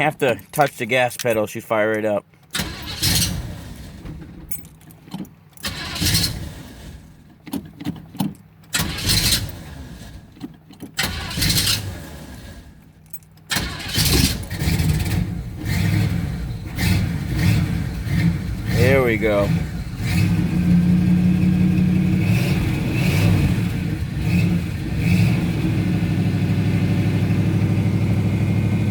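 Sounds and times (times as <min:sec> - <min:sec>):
car engine starting and revving: 0:02.5 - 0:04.6, 0:05.6 - 0:12.8, 0:13.5 - 0:28.9.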